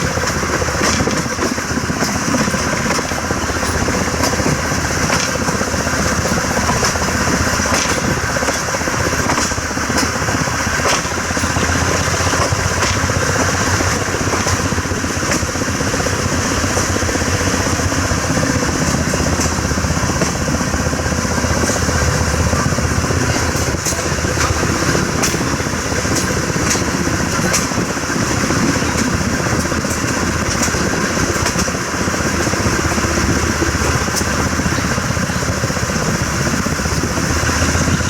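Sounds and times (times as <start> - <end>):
train rumbling and rattling: 0.0 - 38.0
train wheels clicking: 0.0 - 38.0.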